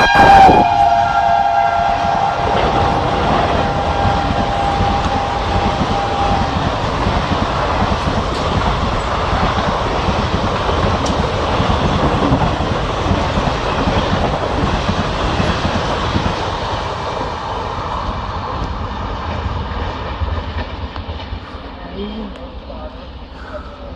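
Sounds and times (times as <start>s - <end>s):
train passing at speed: 0.0s - 23.9s.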